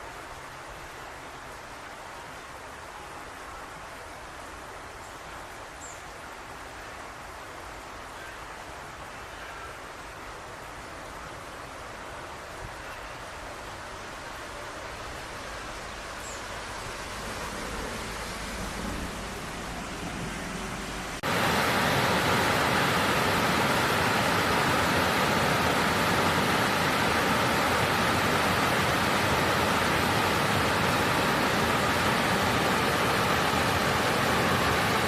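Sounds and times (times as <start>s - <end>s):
wet after-rain hiss: 0.0s - 35.0s.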